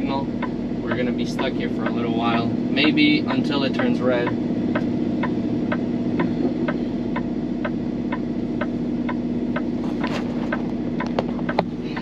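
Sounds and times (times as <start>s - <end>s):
diesel engine idling: 0.0s - 12.0s
turn signal clicking: 0.0s - 12.0s.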